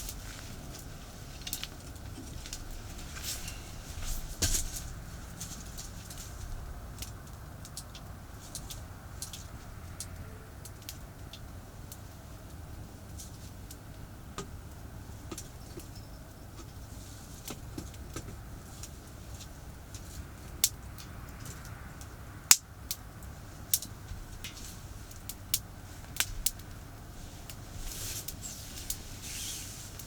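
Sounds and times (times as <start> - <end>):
campfire crackling and popping: 0.0 - 30.0
distant expressway traffic rumble: 0.0 - 30.0.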